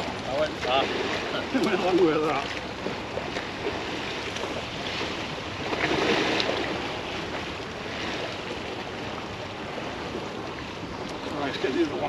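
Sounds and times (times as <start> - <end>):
water washing and lapping: 0.0 - 12.0.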